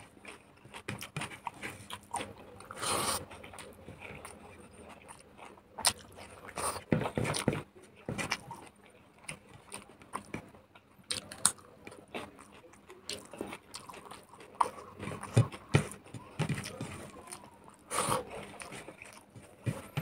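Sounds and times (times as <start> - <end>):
chewing and mouth smacking: 0.0 - 7.5, 8.2 - 19.6.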